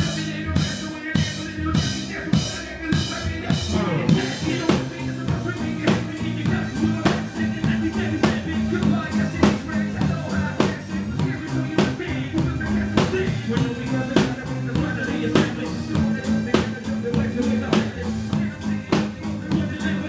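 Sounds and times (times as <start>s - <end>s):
bass line: 0.0s - 20.0s
drum kit beat: 0.0s - 20.0s
live band playing: 0.0s - 20.0s.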